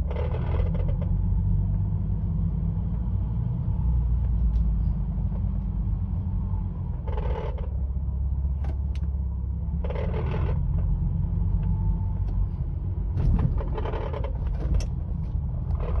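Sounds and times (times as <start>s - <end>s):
low drone of engine and road: 0.0s - 16.0s
rattle under dashboard: 0.0s - 16.0s.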